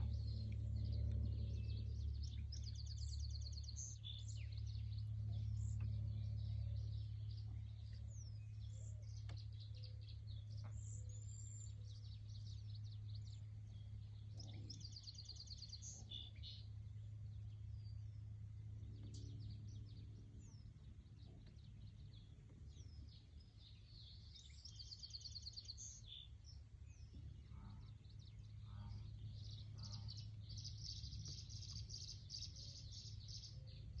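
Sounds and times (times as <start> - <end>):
low rumble: 0.0 - 34.0
songbirds chirping: 0.0 - 34.0.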